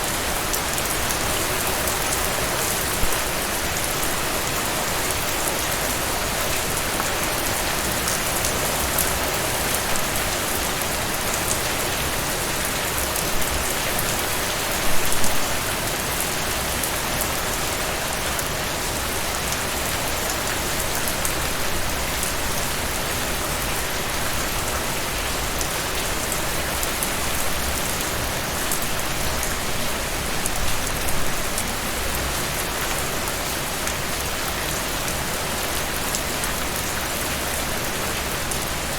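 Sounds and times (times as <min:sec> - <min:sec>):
rain on a surface: 0:00.0 - 0:38.9.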